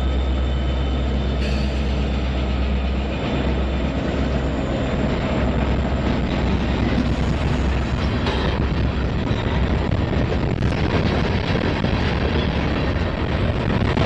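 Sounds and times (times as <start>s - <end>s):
diesel locomotive engines droning: 0.0s - 14.0s
wheels rolling on rails: 2.4s - 14.0s.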